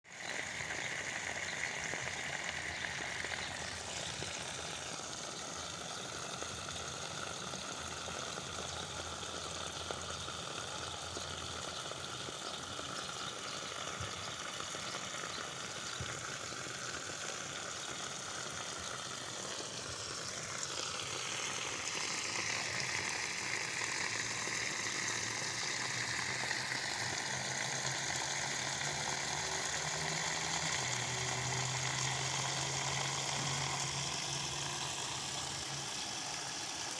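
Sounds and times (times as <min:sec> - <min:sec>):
hose spraying water on plants: 0:00.1 - 0:36.9.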